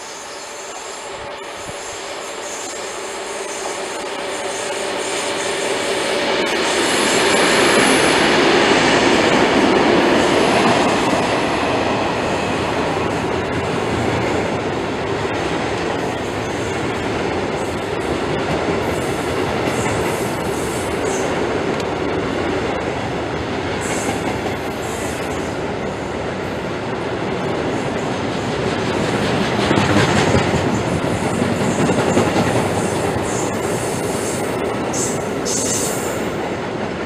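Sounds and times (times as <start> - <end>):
diesel locomotives passing: 0.0 - 37.0.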